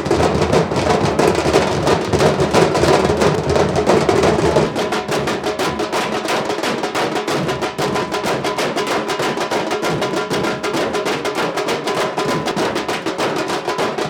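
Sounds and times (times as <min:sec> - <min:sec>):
group of drummers playing: 0:00.0 - 0:14.0.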